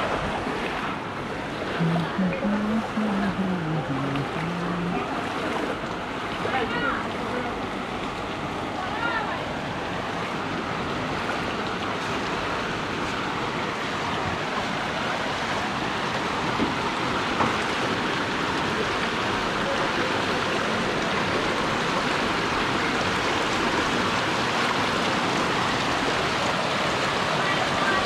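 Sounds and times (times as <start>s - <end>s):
floodwater rushing over road: 0.0s - 28.0s.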